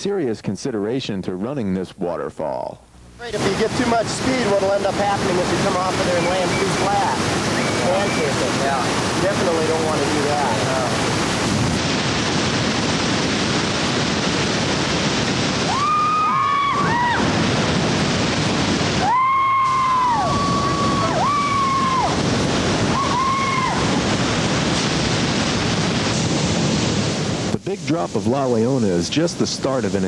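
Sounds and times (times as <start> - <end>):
waterfall rushing: 3.3 - 30.0.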